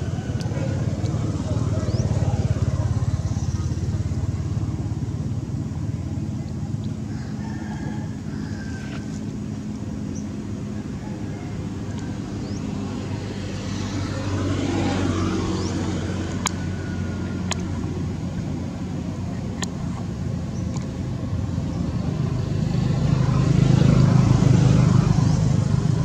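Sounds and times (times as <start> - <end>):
vehicle passing: 0.0 - 19.3, 21.6 - 26.0
vehicle engine running: 0.0 - 26.0.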